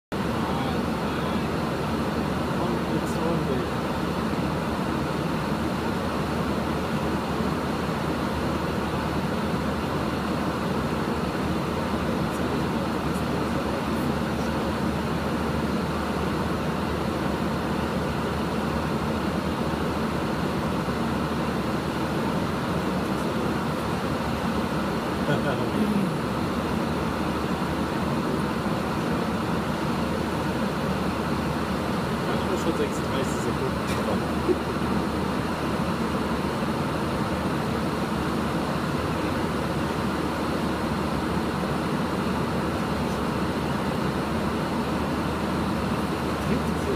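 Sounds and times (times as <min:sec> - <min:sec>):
cockpit airflow noise: 0:00.1 - 0:46.9.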